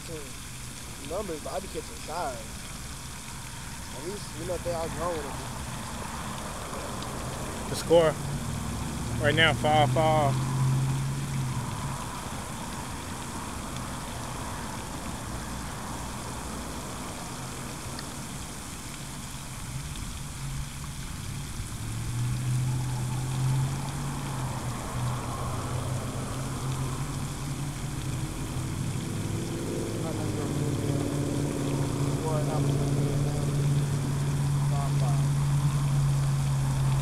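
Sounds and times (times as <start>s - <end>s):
fountain water spray hissing: 0.0s - 37.0s.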